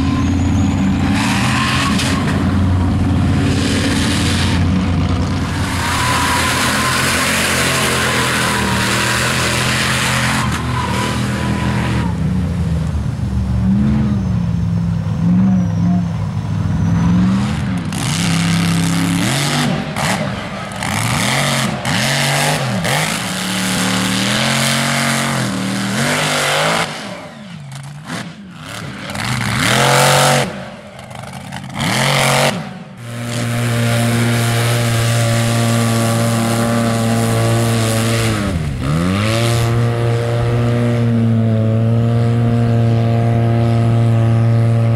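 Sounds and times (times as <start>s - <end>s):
truck engines revving: 0.0s - 44.9s.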